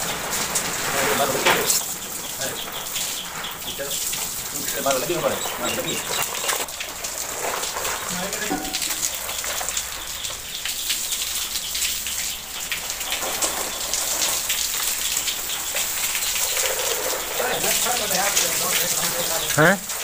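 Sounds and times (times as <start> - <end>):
hose water splashing: 0.0 - 20.0.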